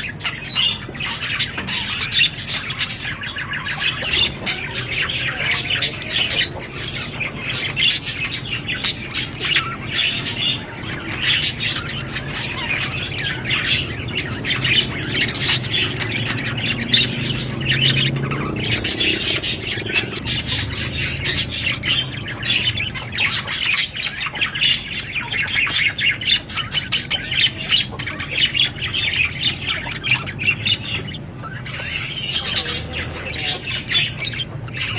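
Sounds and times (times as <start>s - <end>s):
budgerigar chirping: 0.0s - 34.9s.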